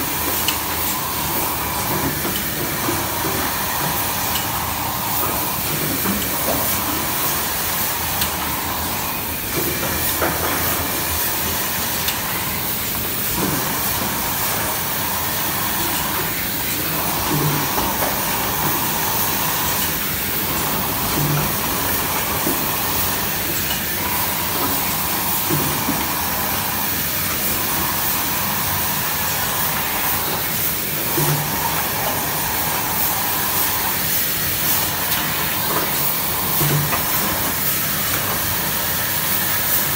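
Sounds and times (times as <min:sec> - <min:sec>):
printing machine running: 0:00.0 - 0:39.9.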